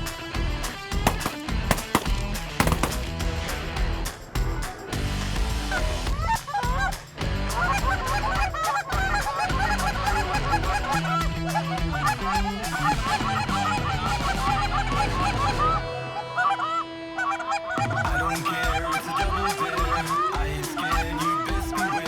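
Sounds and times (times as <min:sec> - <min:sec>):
music with steady beat: 0:00.0 - 0:15.8, 0:17.8 - 0:22.0.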